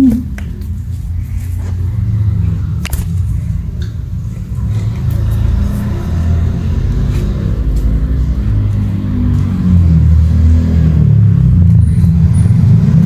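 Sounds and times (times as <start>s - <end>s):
low rumble shifting in pitch: 0.0s - 12.9s.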